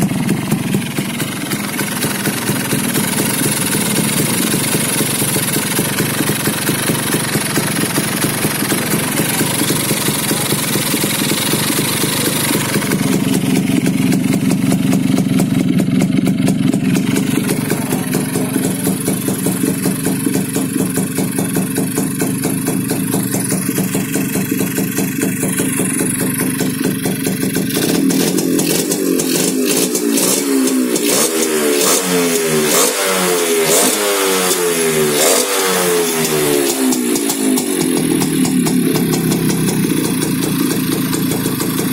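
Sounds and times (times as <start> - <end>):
two-stroke engine revving: 0.0 - 41.9.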